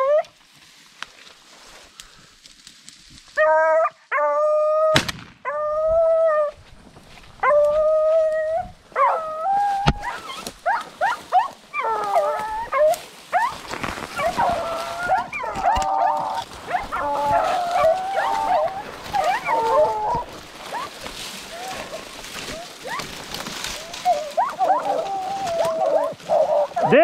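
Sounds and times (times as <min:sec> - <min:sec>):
dogs yelping: 0:03.4 - 0:06.6, 0:07.4 - 0:27.0
hounds baying: 0:03.4 - 0:06.7, 0:07.4 - 0:27.0.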